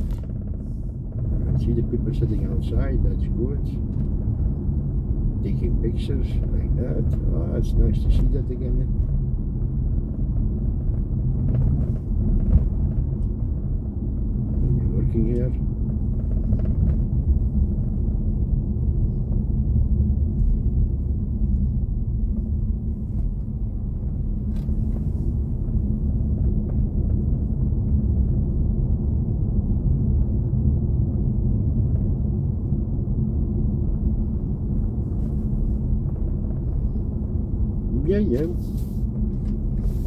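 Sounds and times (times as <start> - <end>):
road and tyre rumble: 0.0 - 40.0.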